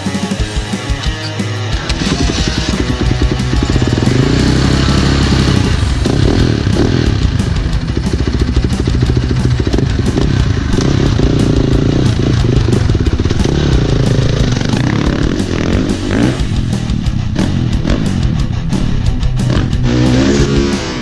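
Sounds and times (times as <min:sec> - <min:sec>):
dirt bike engine revving: 0:01.8 - 0:18.6, 0:19.3 - 0:21.0.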